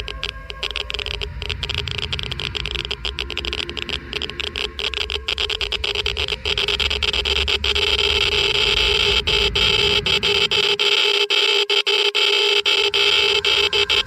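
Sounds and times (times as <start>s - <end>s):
geiger counter clicking: 0.0s - 14.0s
steady hum: 0.0s - 14.0s.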